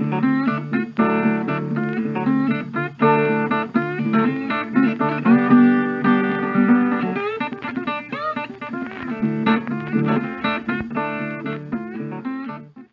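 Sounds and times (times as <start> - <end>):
plucked guitar with bends: 0.0 - 12.9.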